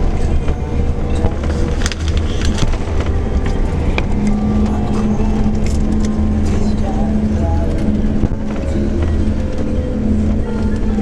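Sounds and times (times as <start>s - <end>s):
coach engine and road drone: 0.0s - 11.0s
steady hum: 0.0s - 11.0s.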